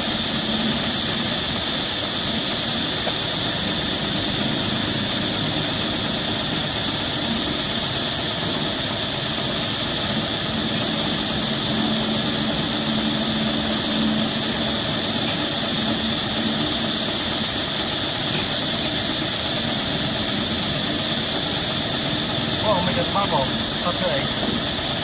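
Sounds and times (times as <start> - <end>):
high-pitched hum: 0.0 - 25.0.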